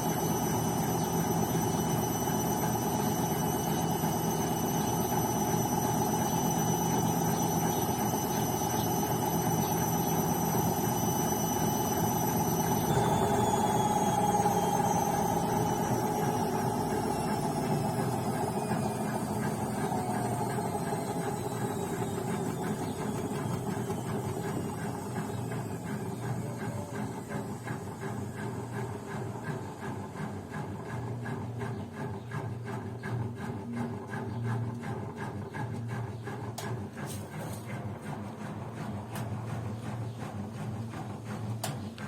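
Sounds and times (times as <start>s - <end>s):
washing machine drum spinning: 0.0s - 42.0s.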